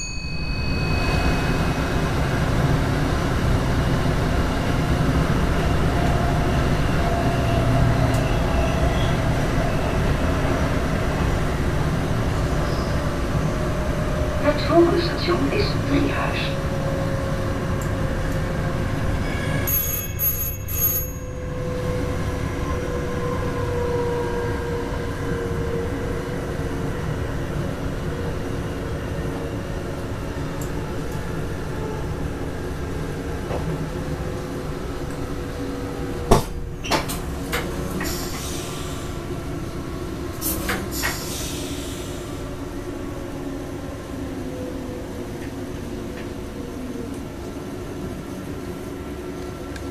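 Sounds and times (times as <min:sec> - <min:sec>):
electric train rumble and motor whine: 0:00.0 - 0:49.9.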